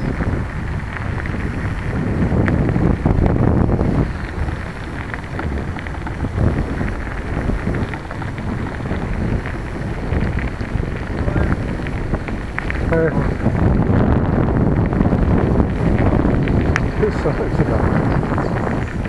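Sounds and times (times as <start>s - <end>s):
bicycle tyres on gravel: 0.0s - 19.0s
wind on microphone: 0.0s - 19.0s.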